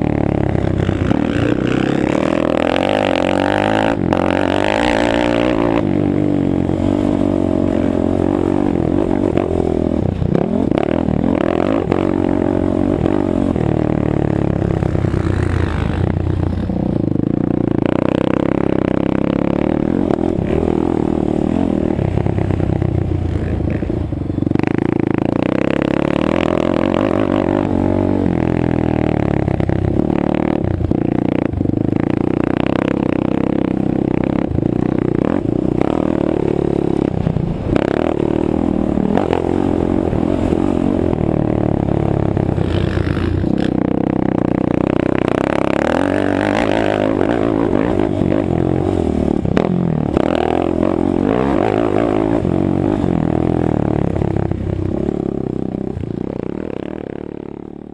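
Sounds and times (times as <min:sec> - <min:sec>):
quad engine revving: 0:00.0 - 0:57.9.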